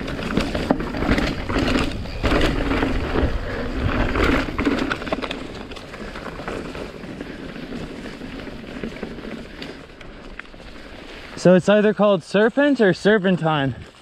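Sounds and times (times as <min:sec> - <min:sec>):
bike frame and chain clattering: 0:00.0 - 0:11.4
bike tyres crunching on dirt: 0:00.0 - 0:14.0.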